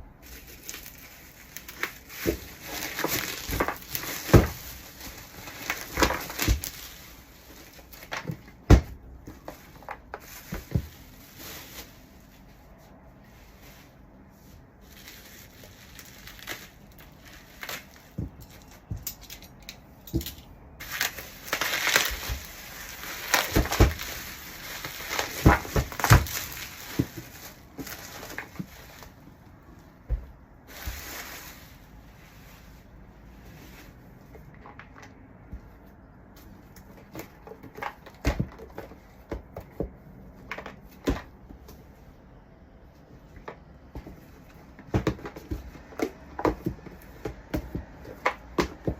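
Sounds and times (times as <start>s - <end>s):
packaging crinkling and rustling: 0.0s - 42.0s.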